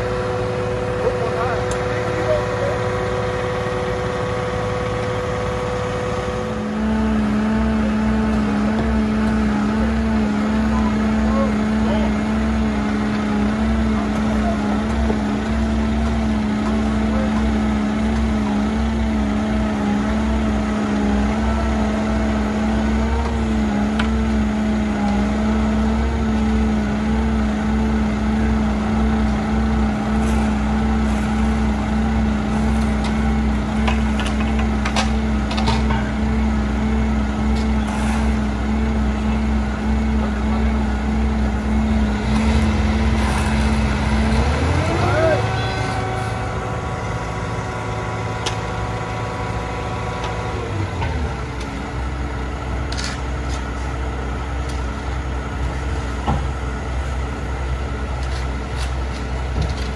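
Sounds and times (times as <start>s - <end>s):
diesel paving machinery drone: 0.0s - 59.9s.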